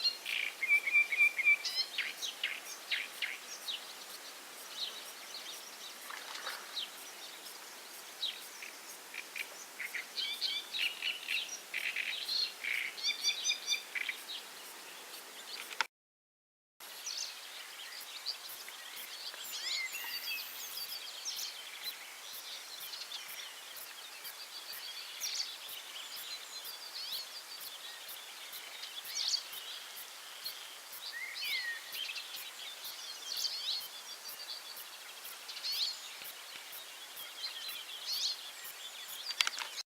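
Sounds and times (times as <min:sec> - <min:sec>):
steady outdoor hiss: 0:00.0 - 0:15.9, 0:16.8 - 0:39.8.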